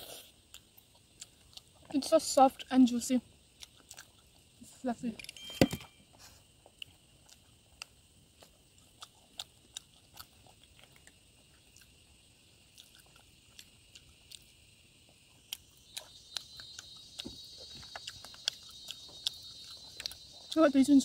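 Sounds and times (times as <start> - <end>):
person chewing food: 0.0 - 2.1, 3.4 - 4.8, 6.1 - 21.0.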